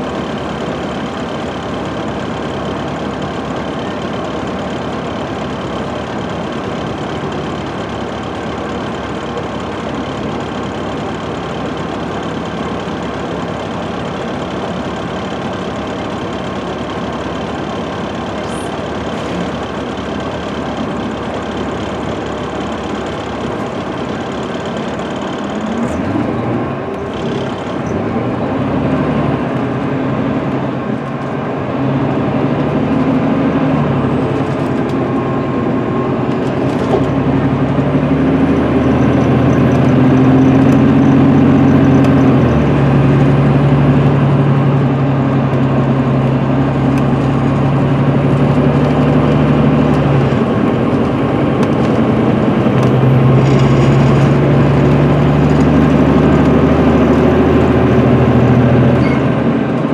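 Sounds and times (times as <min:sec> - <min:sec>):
diesel bus engine accelerating: 0:00.0 - 0:59.9.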